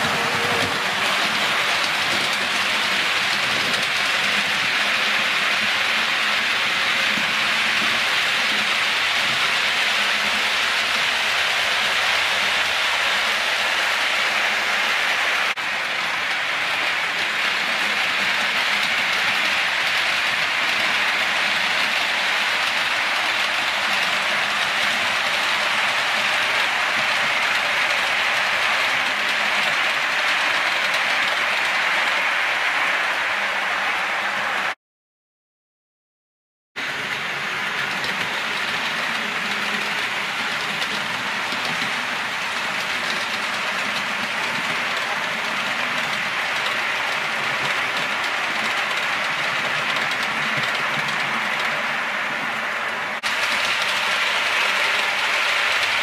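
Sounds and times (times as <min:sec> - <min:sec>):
model trains rolling on track: 0:00.0 - 0:34.8, 0:36.8 - 0:56.0.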